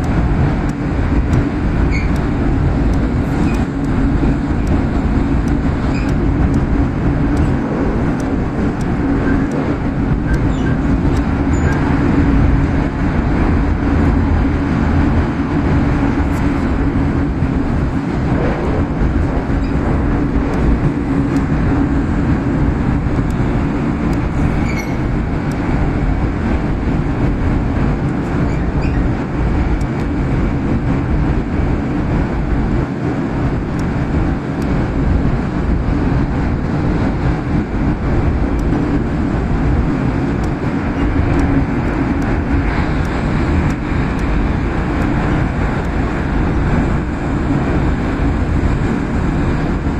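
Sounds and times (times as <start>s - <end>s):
rushing air: 0.0s - 49.9s
train wheels rumbling on rail: 0.0s - 49.9s.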